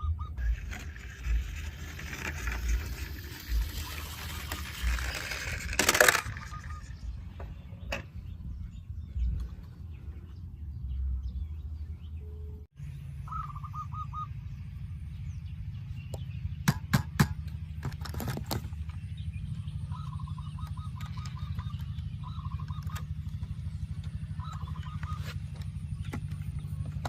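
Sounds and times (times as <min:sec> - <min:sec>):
bird chirping in trills: 0:00.0 - 0:27.0
steady low hum: 0:00.0 - 0:27.0.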